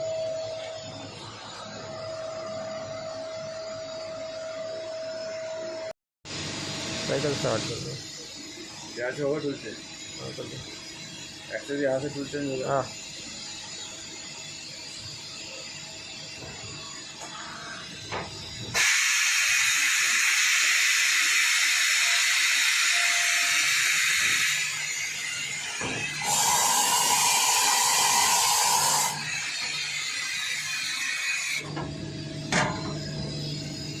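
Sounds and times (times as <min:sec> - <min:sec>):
machine hissing: 0:06.3 - 0:34.0.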